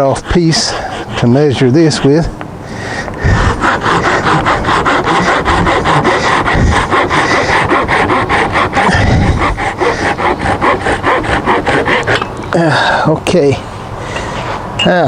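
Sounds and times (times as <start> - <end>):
hand saw cutting: 0.0 - 13.0.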